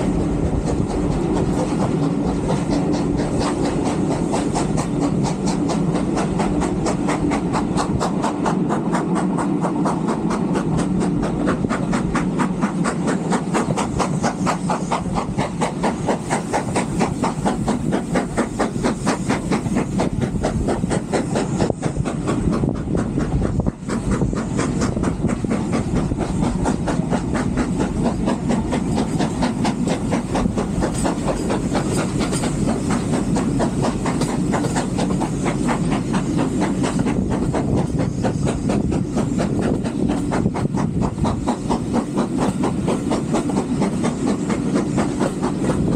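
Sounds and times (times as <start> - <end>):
steam hiss: 0.0 - 45.9
steam train chuffing: 0.0 - 45.9
wheels clattering on rails: 0.0 - 45.9.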